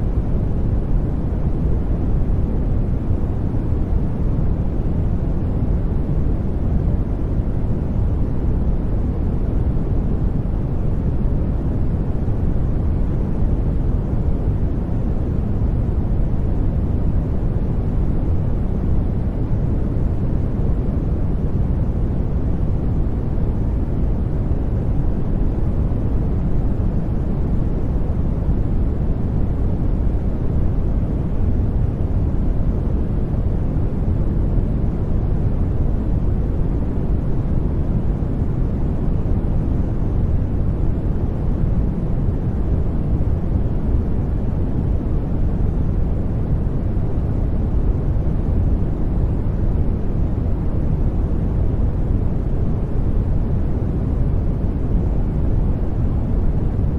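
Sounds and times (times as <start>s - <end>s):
white noise: 0.0s - 56.9s.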